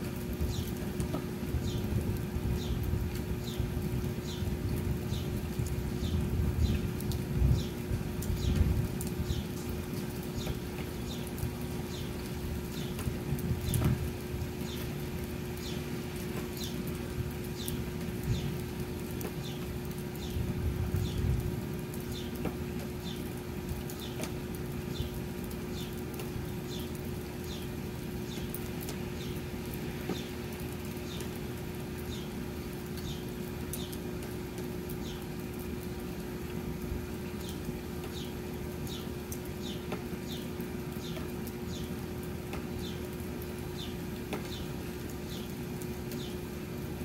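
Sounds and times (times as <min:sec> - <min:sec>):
light rain falling: 0:00.0 - 0:47.0.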